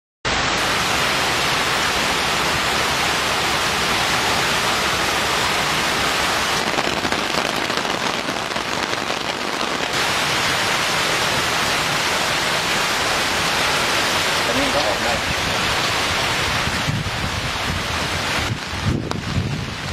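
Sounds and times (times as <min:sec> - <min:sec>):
heavy rain on road and vehicles: 0:00.3 - 0:19.9.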